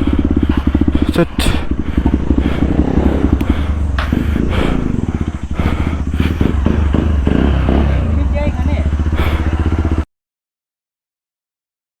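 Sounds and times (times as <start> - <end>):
motorcycle engine rumbling: 0.0 - 10.1.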